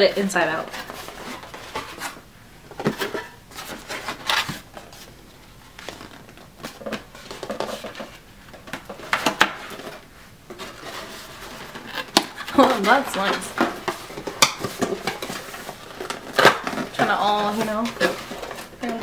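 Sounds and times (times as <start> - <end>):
cardboard rustling and scraping: 0.1 - 19.0.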